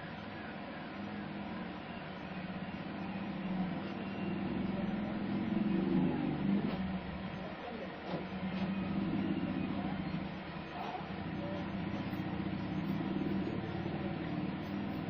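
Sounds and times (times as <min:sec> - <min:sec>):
low steady engine hum: 0:00.0 - 0:15.0.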